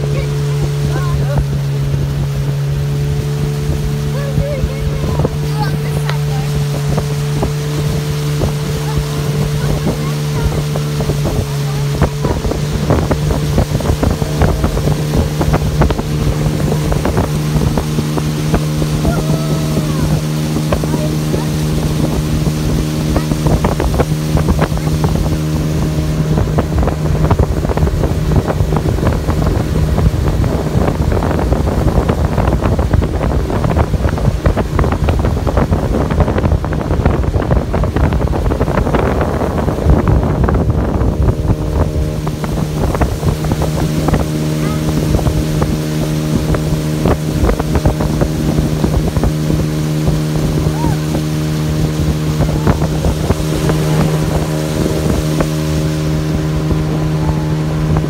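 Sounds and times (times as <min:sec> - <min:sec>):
speedboat engine running: 0:00.0 - 0:58.0
water rushing along hull: 0:00.0 - 0:58.0
wind buffeting microphone: 0:00.0 - 0:58.0.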